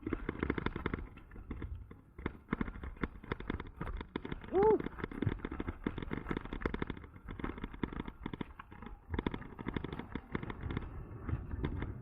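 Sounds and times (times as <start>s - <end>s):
electric bike rattling and knocking: 0.0s - 12.0s.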